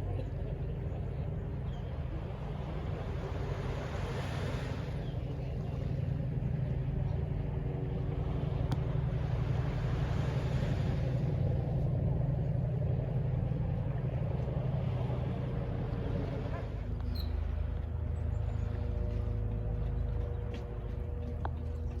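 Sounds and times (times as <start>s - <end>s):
distant city traffic rumble: 0.0s - 22.0s.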